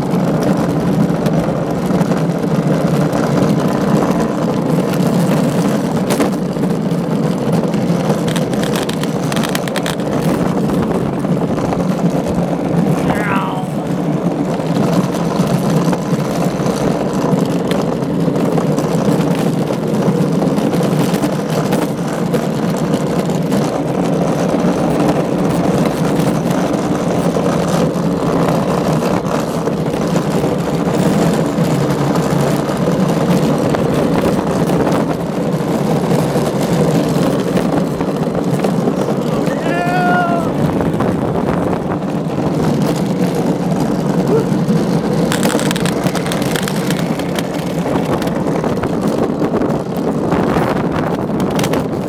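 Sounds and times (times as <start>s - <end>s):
cart wheels rumbling on concrete: 0.0s - 52.0s.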